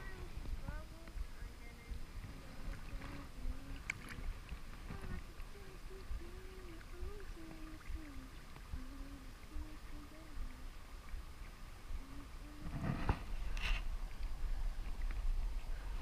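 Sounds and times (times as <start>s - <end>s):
faint wavering hum: 0.0s - 16.0s
wading in river water: 0.0s - 16.0s.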